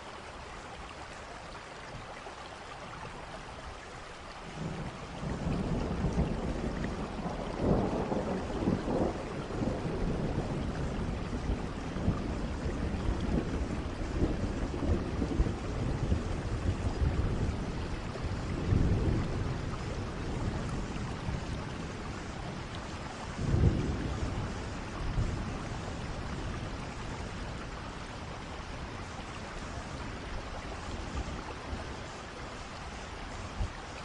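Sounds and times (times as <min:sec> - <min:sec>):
steady rain: 0:00.0 - 0:34.0
rolling thunder: 0:04.6 - 0:32.1.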